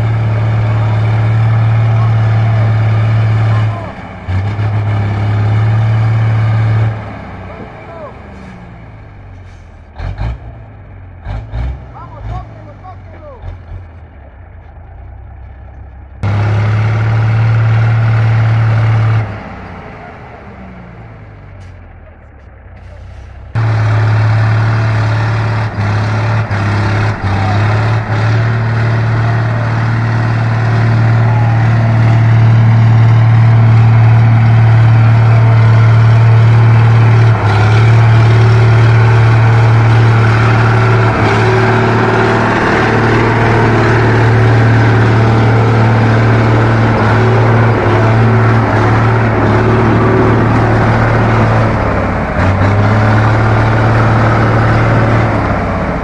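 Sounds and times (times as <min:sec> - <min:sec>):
diesel truck engine under load: 0:00.0 - 0:56.0.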